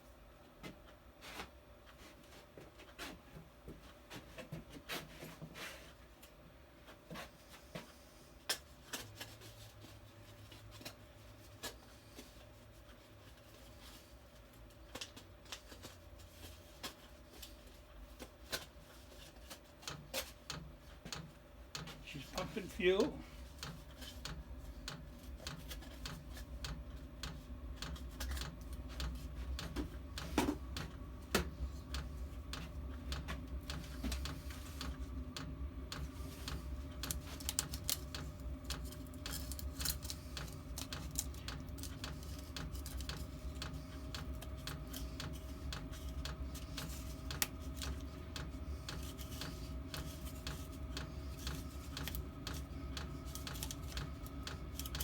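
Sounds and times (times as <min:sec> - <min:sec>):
heater fans whirring: 0:00.0 - 0:55.0.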